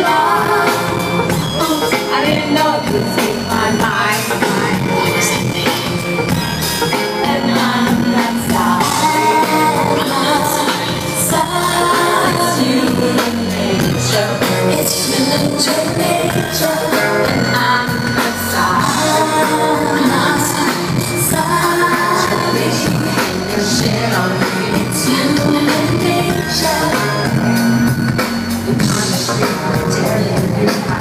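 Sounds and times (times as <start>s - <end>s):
person singing: 0.0s - 27.7s, 28.6s - 31.0s
loud pop concert music: 0.0s - 31.0s.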